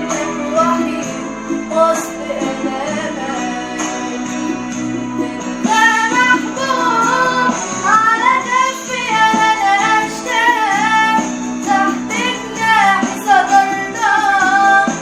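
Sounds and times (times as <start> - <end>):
woman singing a hymn: 0.0 - 4.3, 5.2 - 15.0
instrumental backing music: 0.0 - 15.0.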